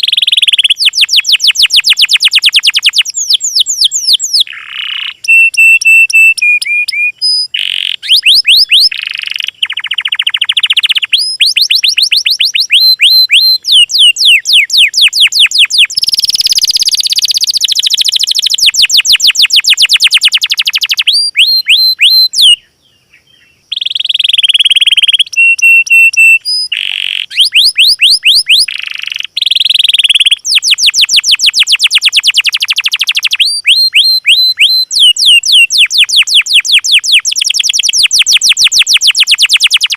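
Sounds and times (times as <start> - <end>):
bird whistles: 0.0 - 39.9
songbirds trilling: 0.0 - 39.9.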